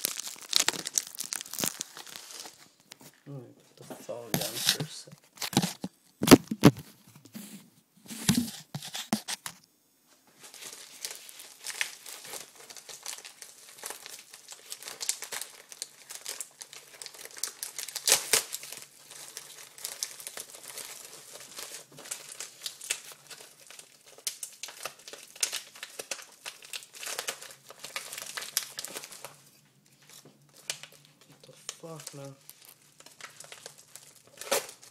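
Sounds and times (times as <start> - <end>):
plastic bag crinkling: 0.0 - 3.3, 4.3 - 6.8, 10.4 - 34.9.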